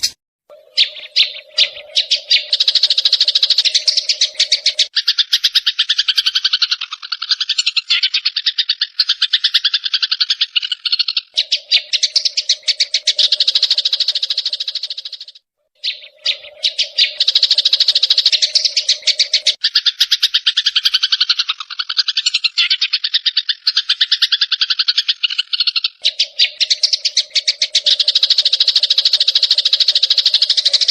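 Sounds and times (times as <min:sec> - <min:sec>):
sparrows chattering: 0:00.0 - 0:30.9.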